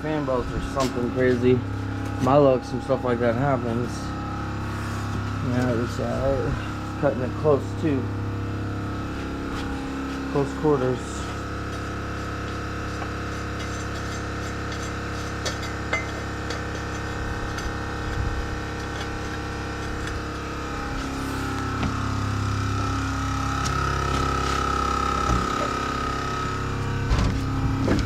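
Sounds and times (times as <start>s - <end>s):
air compressor humming: 0.0s - 28.0s.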